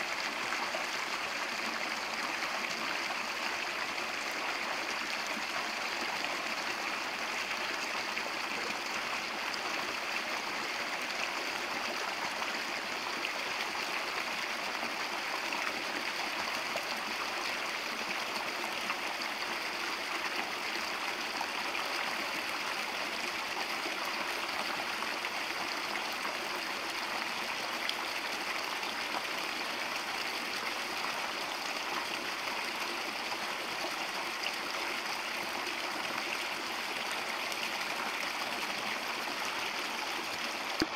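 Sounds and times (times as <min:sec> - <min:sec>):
brook water rushing over stones: 0:00.0 - 0:40.9.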